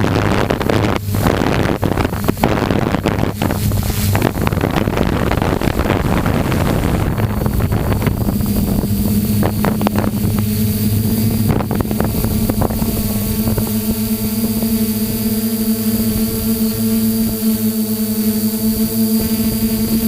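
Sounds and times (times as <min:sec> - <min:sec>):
steady motor hum: 0:00.0 - 0:20.0
wind buffeting microphone: 0:00.0 - 0:20.0.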